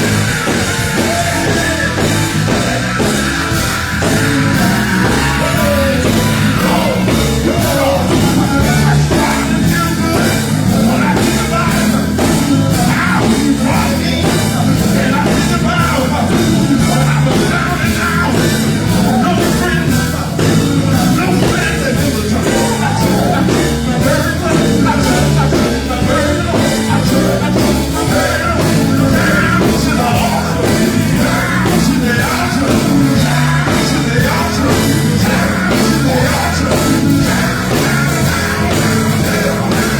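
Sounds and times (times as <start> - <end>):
group singing: 0.0 - 39.9
live band playing: 0.0 - 39.9
steady drum beat: 0.0 - 39.9.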